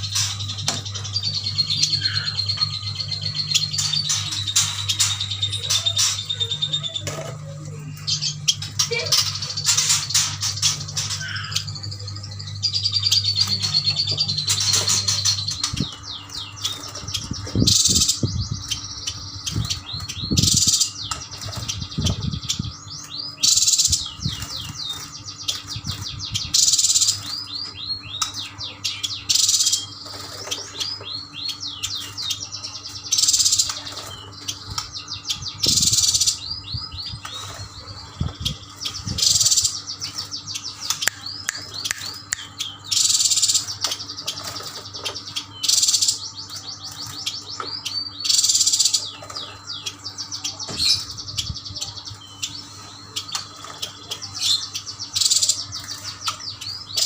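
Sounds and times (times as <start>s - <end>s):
birds chattering with high chirps: 0.0s - 57.0s.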